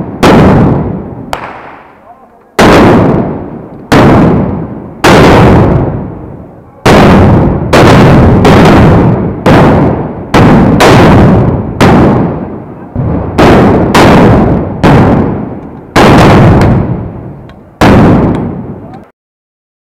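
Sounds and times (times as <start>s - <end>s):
gunshots echoing: 0.0s - 18.9s.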